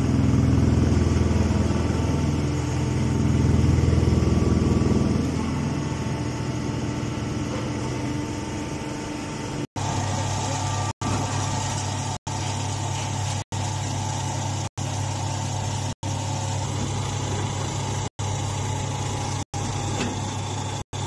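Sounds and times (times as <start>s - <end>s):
hay baler power unit humming: 0.0s - 21.0s.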